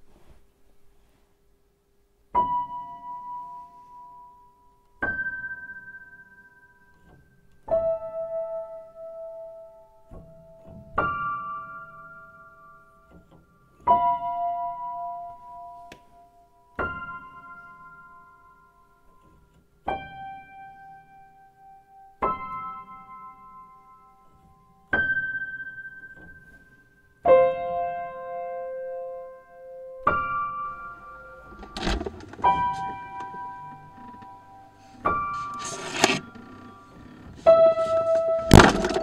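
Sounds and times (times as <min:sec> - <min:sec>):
piano chords ringing out: 0:02.4 - 0:19.2, 0:19.8 - 0:39.0.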